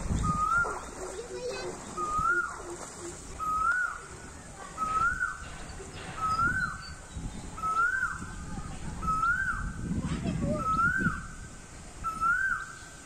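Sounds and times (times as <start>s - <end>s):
bird calling: 0.2s - 9.8s, 10.5s - 11.4s, 12.0s - 13.0s.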